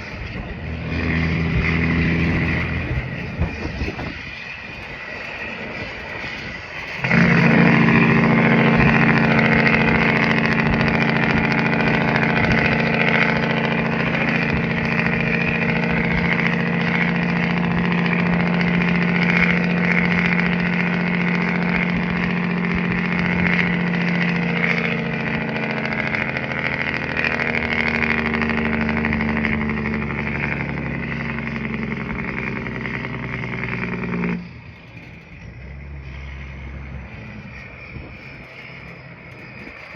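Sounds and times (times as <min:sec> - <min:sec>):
road and wind noise: 0:00.0 - 0:39.9
truck diesel engine running: 0:00.0 - 0:39.9.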